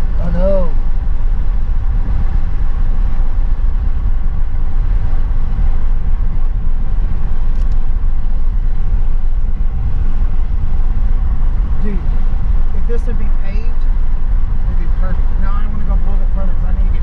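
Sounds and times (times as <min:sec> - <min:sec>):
tyre and wind rumble in car: 0:00.0 - 0:17.0.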